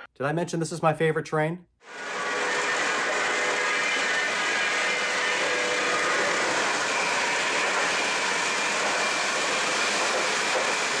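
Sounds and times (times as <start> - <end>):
model train wheels whirring: 1.8 - 11.0.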